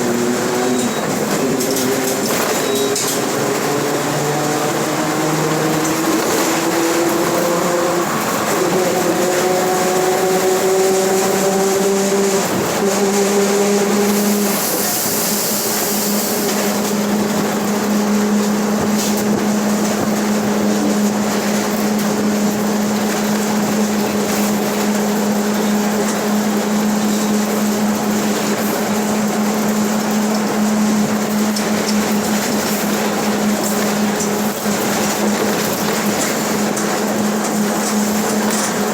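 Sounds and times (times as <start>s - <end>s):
bus differential growling: 0.0s - 38.9s
road noise: 0.0s - 38.9s.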